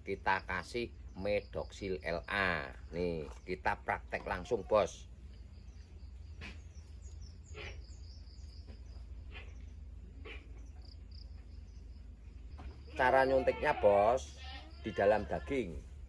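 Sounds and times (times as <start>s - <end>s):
birds chirping faintly: 0.0s - 16.0s
steady low hum: 0.0s - 16.0s.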